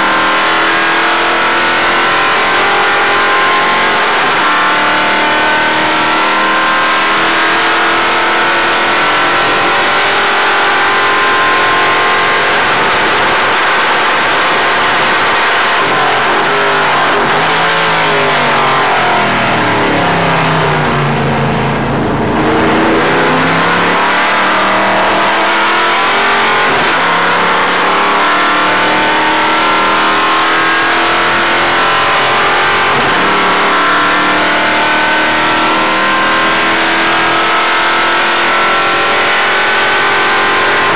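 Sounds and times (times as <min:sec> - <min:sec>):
race car engine at high revs: 0:00.0 - 0:40.9.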